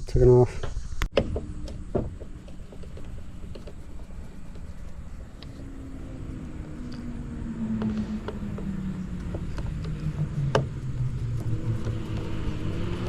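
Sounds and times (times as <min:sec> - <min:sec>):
engine drone changing pitch: 0:00.7 - 0:13.0.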